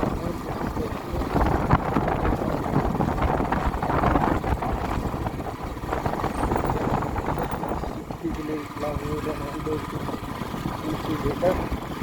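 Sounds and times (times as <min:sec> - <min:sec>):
road and wind noise: 0:00.0 - 0:12.0
vehicle engine running: 0:00.0 - 0:12.0.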